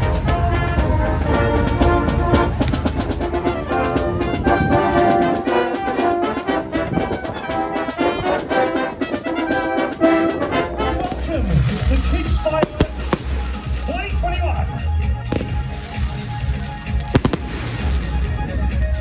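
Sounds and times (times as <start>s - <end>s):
trumpets and trombones playing: 0.0s - 18.6s
drums: 0.0s - 19.0s.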